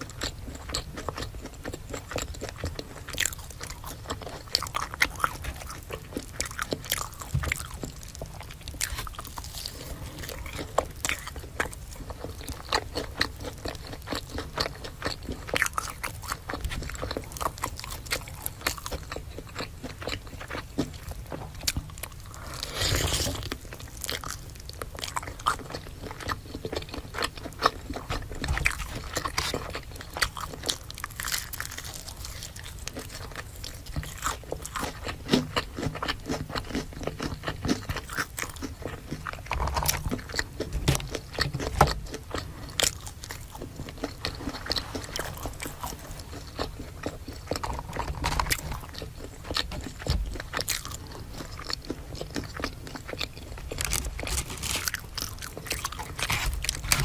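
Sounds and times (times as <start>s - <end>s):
chewing crisp fried food: 0.0s - 57.0s.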